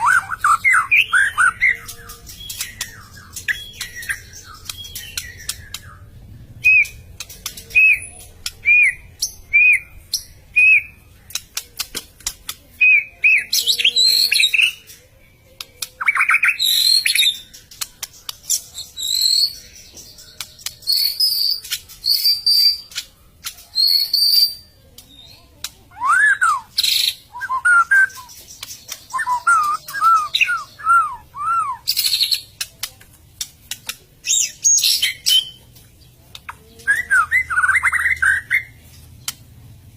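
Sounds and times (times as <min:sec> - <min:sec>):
songbird singing varied song: 0:00.0 - 0:39.6.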